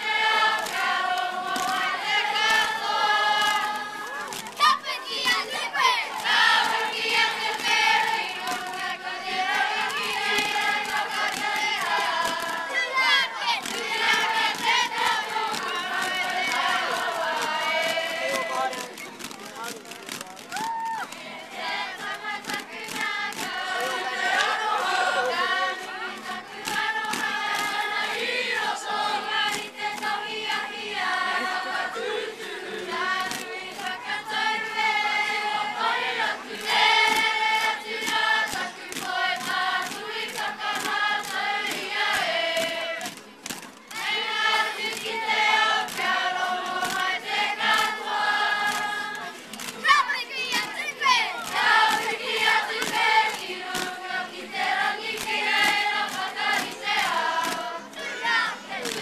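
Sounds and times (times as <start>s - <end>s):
girls singing together: 0.0s - 18.7s, 21.2s - 43.2s, 43.9s - 59.0s.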